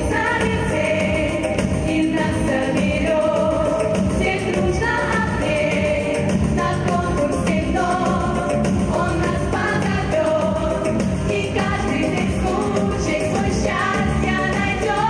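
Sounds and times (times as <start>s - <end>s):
pop song singing: 0.0s - 15.0s.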